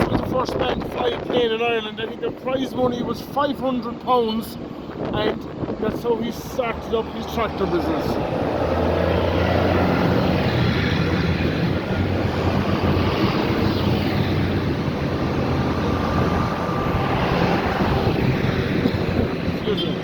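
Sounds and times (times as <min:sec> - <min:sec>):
tractor engines driving past: 0:00.0 - 0:20.0.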